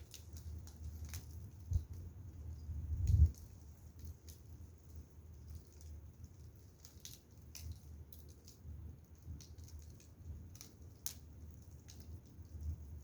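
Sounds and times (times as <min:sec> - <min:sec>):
firewood crackling and popping: 0:00.0 - 0:13.0.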